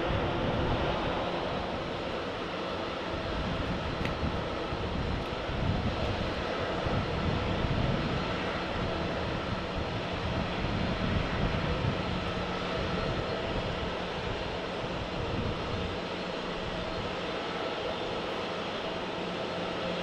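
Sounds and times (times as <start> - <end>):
airliner engines running: 0.0 - 20.0.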